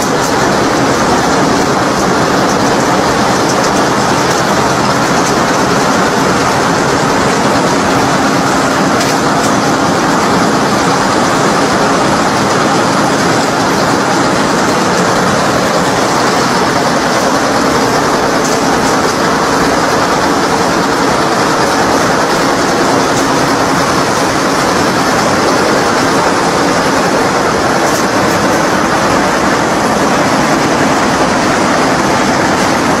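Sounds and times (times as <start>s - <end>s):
needle punching machine running: 0.0s - 33.0s.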